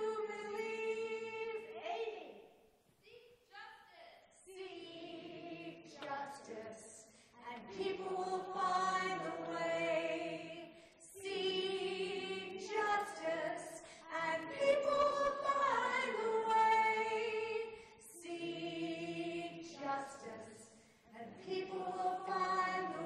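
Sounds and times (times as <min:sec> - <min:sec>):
many voices singing in unison: 0:00.0 - 0:01.8, 0:04.5 - 0:23.0.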